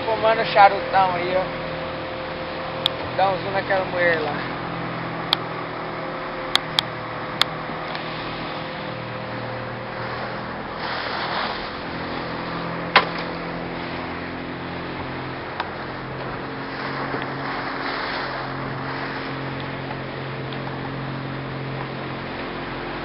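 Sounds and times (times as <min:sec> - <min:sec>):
motorboat engine droning: 0:00.0 - 0:23.0
rush of wind or water: 0:00.0 - 0:23.0.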